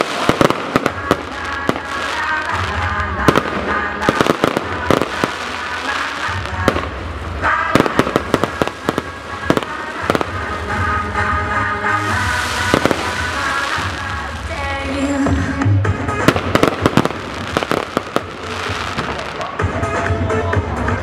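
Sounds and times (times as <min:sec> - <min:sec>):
fireworks bangs and pops: 0:00.0 - 0:15.4, 0:16.2 - 0:19.6.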